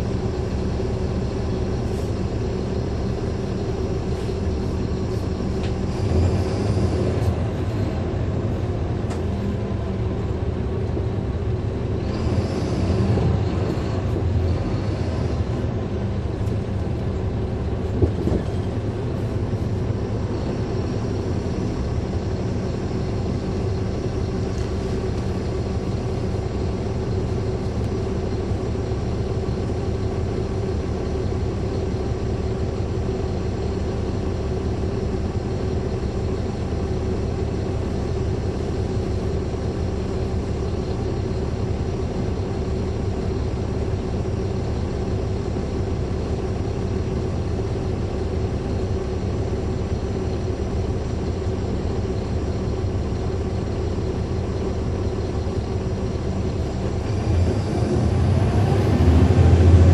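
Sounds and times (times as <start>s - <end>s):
diesel engine droning: 0.0s - 59.9s
engine cooling fans: 0.0s - 59.9s.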